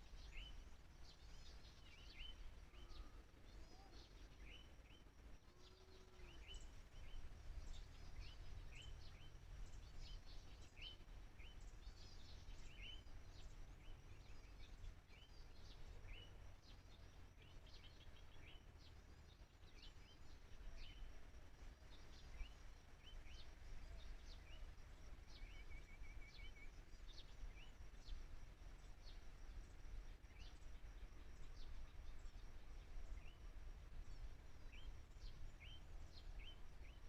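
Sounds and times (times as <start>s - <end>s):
low steady rumble: 0.0s - 37.0s
small birds chirping: 0.0s - 37.0s.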